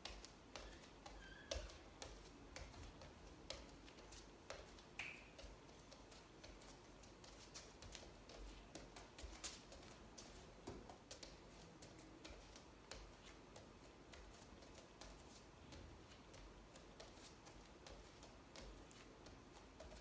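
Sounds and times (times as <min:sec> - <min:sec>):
bare feet tapping wooden floor: 0:00.0 - 0:20.0.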